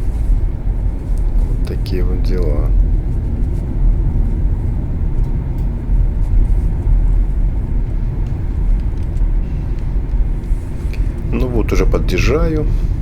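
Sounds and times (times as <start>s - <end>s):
tyre and road rumble in car: 0.0s - 13.0s.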